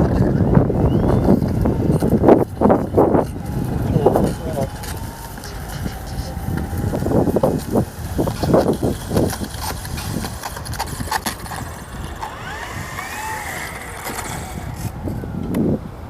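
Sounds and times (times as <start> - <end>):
wind on microphone: 0.0 - 16.0
model aircraft motor: 0.3 - 15.6.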